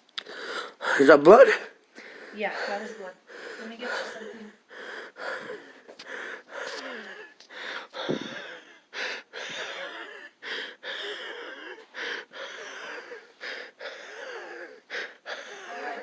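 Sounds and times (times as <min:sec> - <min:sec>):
man wheezing breaths: 0:00.2 - 0:01.1, 0:02.0 - 0:16.0.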